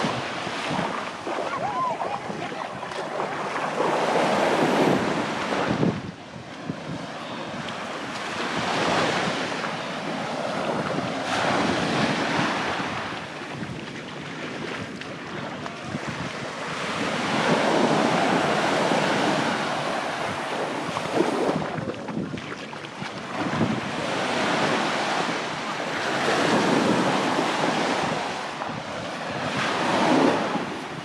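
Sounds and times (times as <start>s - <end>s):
sea waves breaking on beach: 0.0s - 31.0s
wind buffeting microphone: 0.0s - 31.0s.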